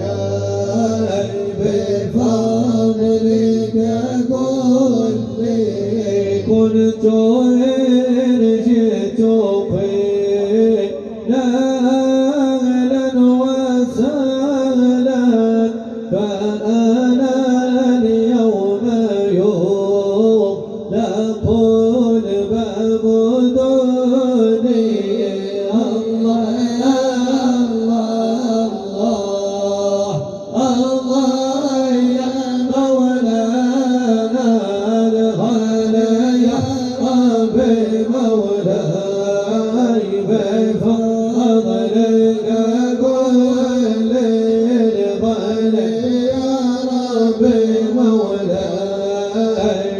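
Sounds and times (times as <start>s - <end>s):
voices singing devotional chant: 0.0s - 49.9s.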